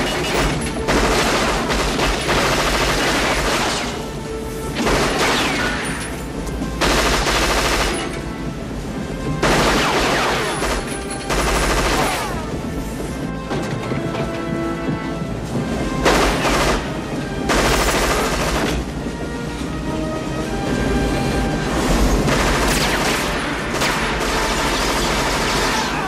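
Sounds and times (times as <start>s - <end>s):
film score music: 0.0s - 26.0s.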